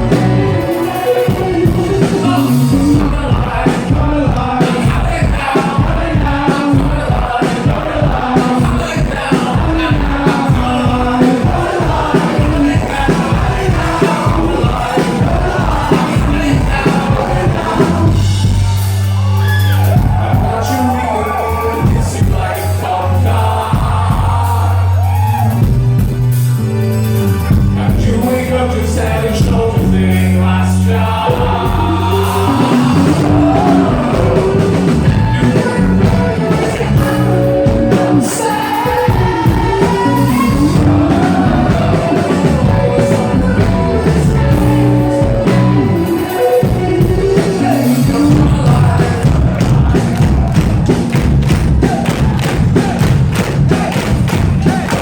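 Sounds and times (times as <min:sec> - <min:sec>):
lead vocal singing: 0:00.0 - 0:25.8, 0:27.6 - 0:55.0
live rock band playing: 0:00.0 - 0:55.0.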